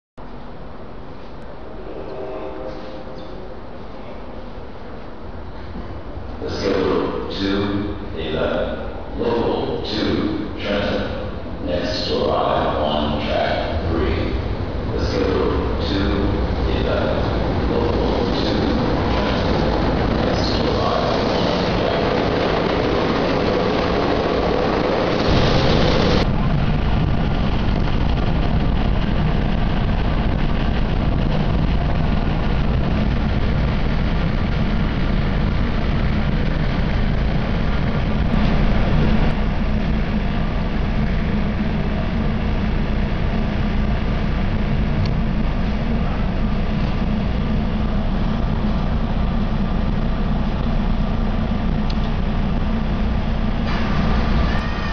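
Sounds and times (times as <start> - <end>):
train moving along platform: 0.2 - 54.9
train rumbling at speed: 0.2 - 54.9.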